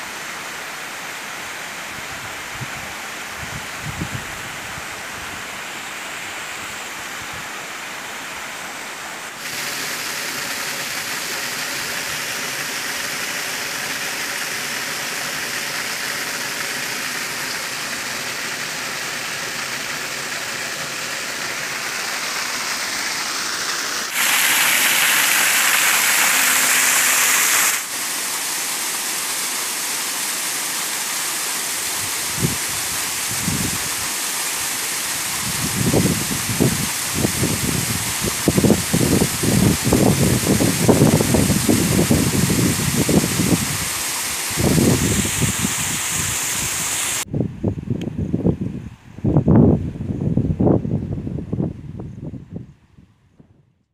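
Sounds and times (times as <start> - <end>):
small waterfall splashing: 0.0 - 47.3.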